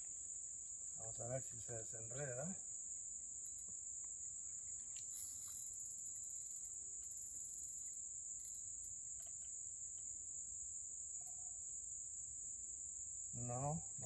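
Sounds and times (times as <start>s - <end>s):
higher pulsing insect call: 0.0s - 14.0s
insects trilling: 0.0s - 14.0s.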